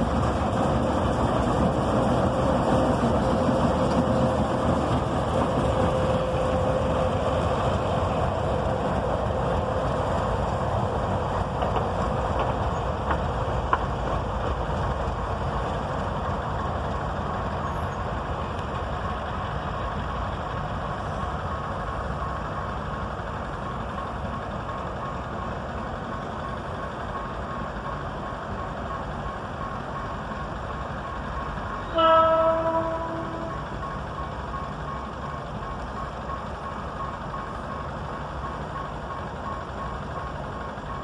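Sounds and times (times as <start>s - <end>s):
diesel locomotive engine running: 0.0s - 41.0s
wheels rumbling on rail: 0.0s - 41.0s.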